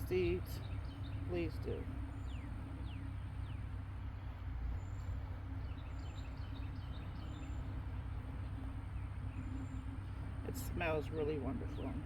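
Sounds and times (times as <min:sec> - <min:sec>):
low motor hum: 0:00.0 - 0:12.0
small birds chirping: 0:00.0 - 0:12.0.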